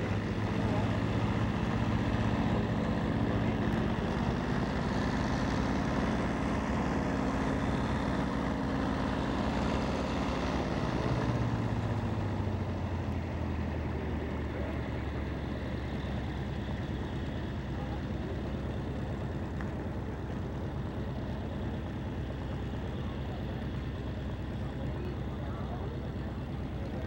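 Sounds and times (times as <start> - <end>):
radial aircraft engine running: 0.0 - 27.0.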